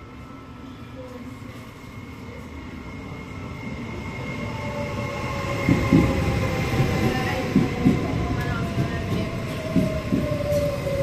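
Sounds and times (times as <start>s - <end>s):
wheels rumbling on rail: 1.0s - 11.0s.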